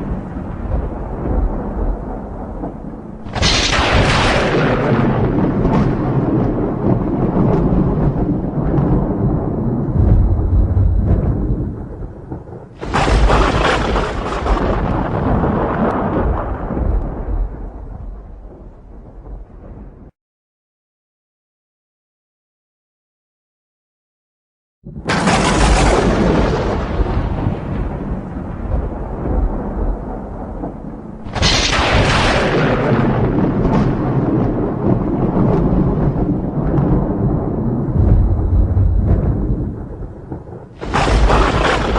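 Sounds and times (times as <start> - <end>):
low thunder rumble: 0.0 - 20.1, 24.9 - 41.9
sharp thunderclap: 0.0 - 20.1, 24.9 - 41.9.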